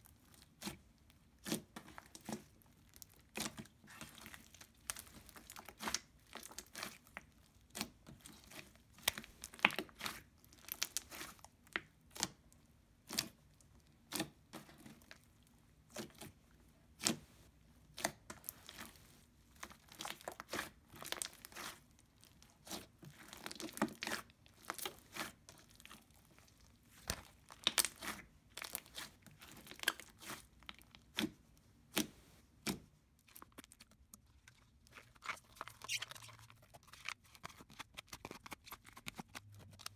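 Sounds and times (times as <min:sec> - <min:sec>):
slime being kneaded by hand: 0:00.1 - 0:39.9.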